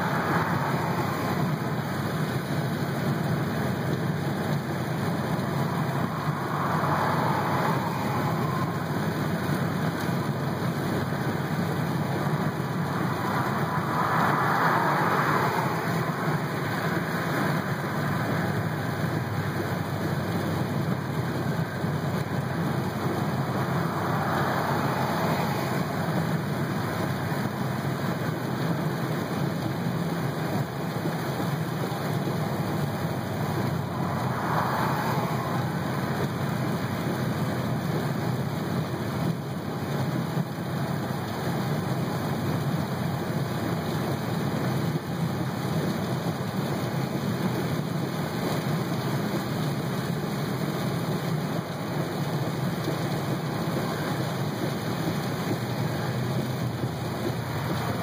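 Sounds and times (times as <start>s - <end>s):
tyres and rain hissing: 0.0s - 58.0s.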